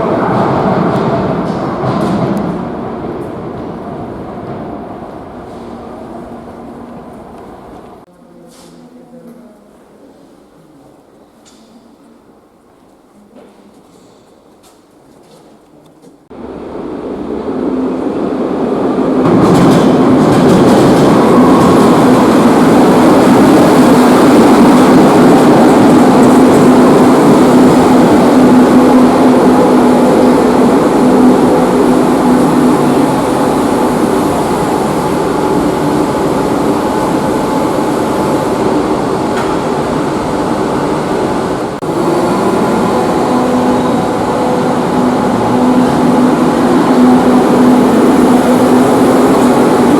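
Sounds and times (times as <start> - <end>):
metro train rumble: 0.0 - 49.9.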